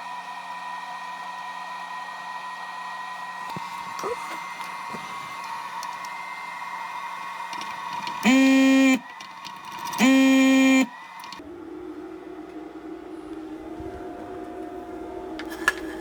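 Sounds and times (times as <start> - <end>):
hot air blower whine: 0.0 - 16.0.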